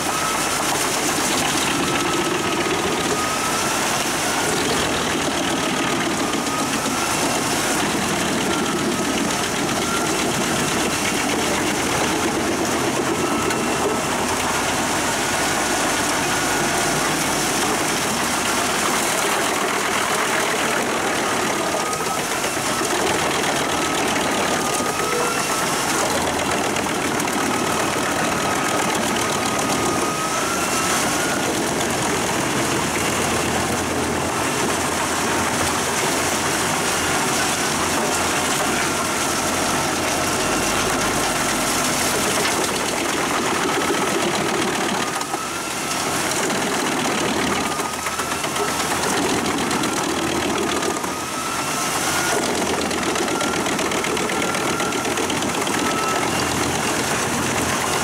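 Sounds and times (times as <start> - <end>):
wood chipper and tractor din: 0.0 - 58.0.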